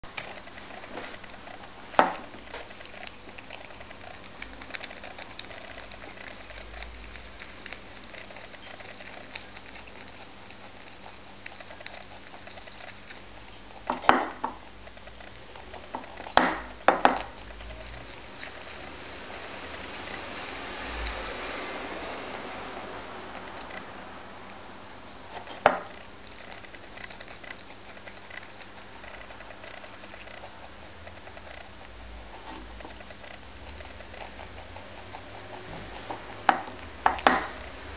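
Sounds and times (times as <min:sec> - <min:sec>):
rabbit chewing kale: 0:00.0 - 0:37.9.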